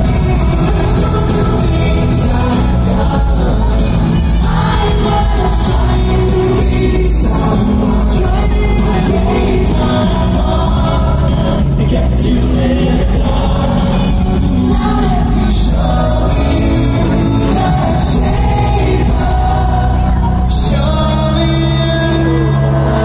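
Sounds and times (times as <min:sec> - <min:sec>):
loud amplified backing music: 0:00.0 - 0:23.0
male vocal group singing: 0:00.0 - 0:23.0.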